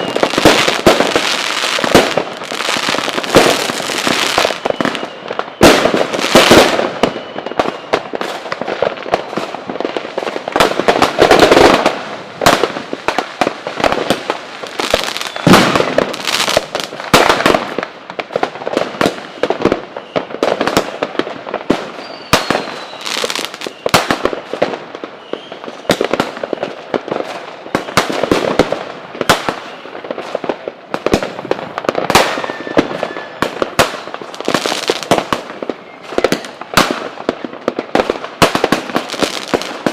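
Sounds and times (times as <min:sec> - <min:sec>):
faint fireworks whistles: 0:00.0 - 0:39.9
fireworks bangs: 0:00.0 - 0:39.9
fireworks crackling: 0:00.0 - 0:39.9.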